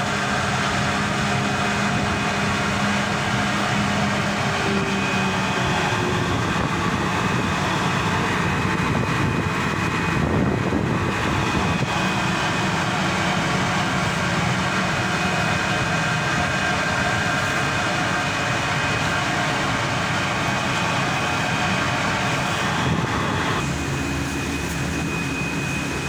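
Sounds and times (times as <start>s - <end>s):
boat engine hum: 0.0s - 26.0s
rushing water noise: 0.0s - 26.0s.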